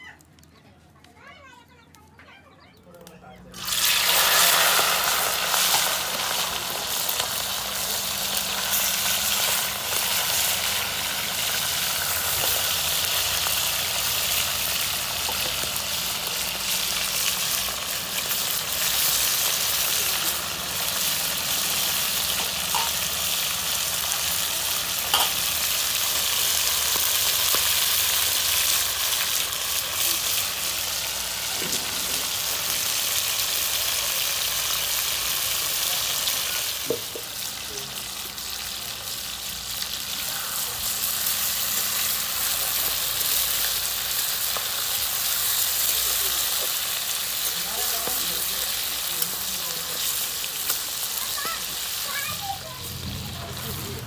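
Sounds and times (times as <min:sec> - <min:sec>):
chicken frying in hot oil: 0:03.5 - 0:54.0.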